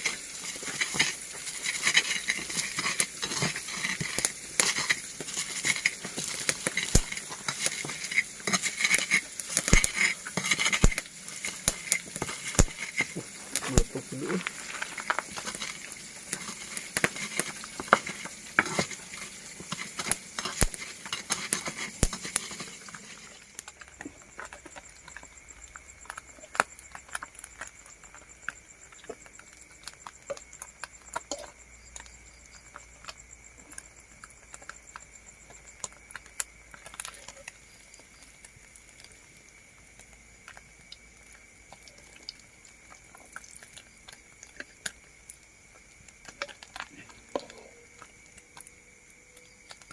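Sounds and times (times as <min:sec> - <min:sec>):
food frying in hot oil: 0:00.0 - 0:49.9.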